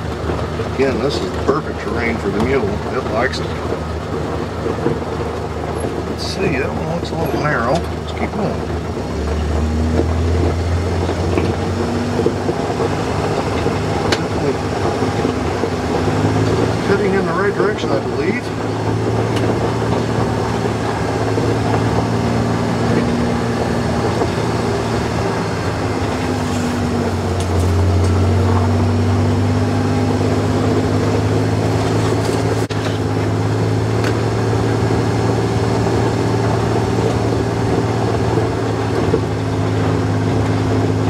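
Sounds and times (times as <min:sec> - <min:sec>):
tyres rolling over gravel: 0:00.0 - 0:41.0
utility vehicle engine running: 0:00.0 - 0:41.0.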